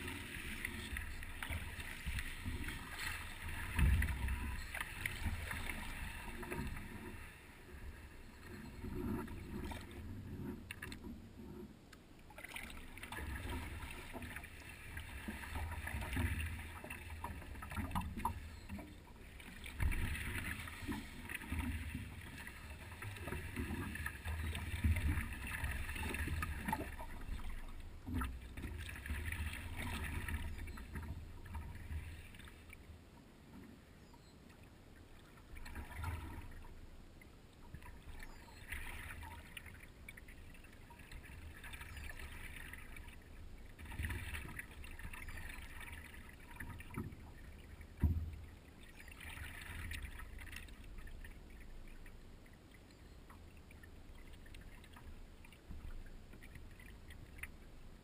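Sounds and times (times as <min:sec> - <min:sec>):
paddle splashing water: 0:00.0 - 0:11.3, 0:12.2 - 0:32.8, 0:37.7 - 0:57.7.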